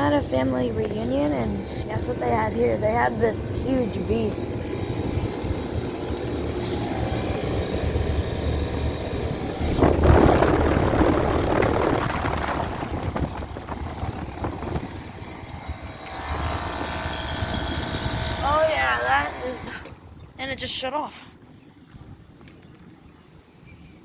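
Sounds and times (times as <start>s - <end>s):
compressor humming: 0.0s - 20.3s
fan rushing air: 0.0s - 20.5s.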